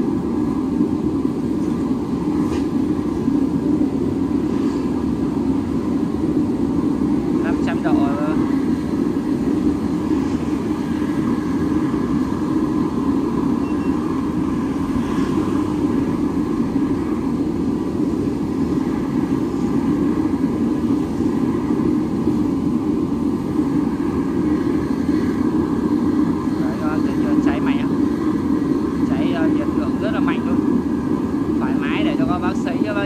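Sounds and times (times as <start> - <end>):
oil burner roaring: 0.0 - 33.0.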